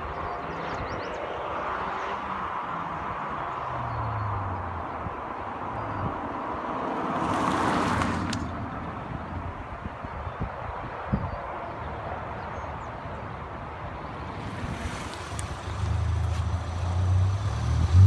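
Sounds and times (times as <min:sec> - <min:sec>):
road noise: 0:00.0 - 0:18.0
wind: 0:00.0 - 0:18.0.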